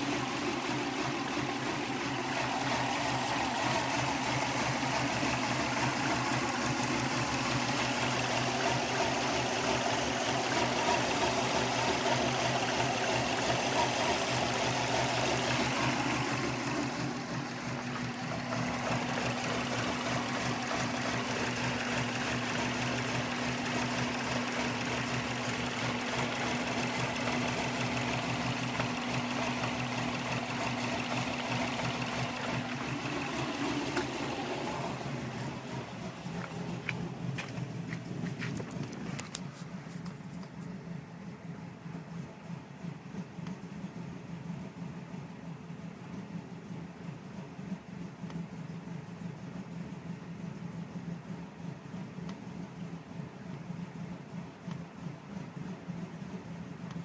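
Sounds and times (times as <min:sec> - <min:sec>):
car engine idling roughly: 0:00.0 - 0:57.0.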